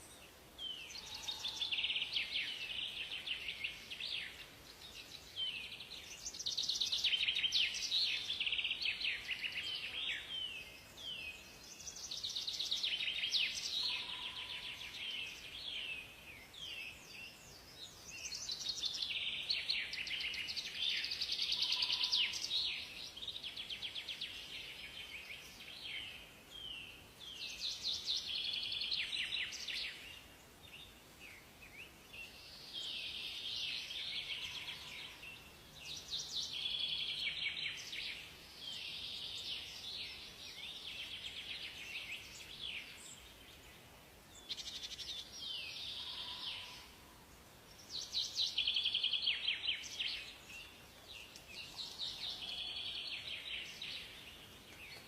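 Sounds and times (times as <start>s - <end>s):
soft steady hiss: 0.0s - 55.0s
songbirds trilling: 0.0s - 55.0s.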